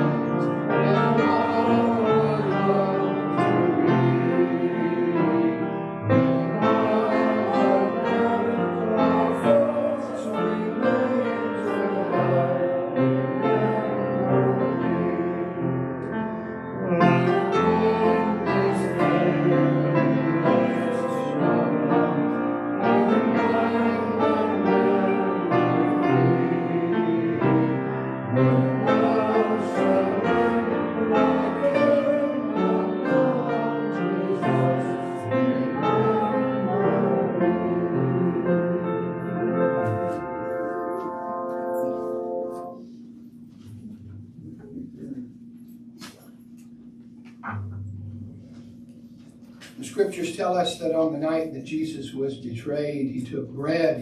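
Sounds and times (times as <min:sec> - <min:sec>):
hymn played on piano: 0:00.0 - 0:54.0.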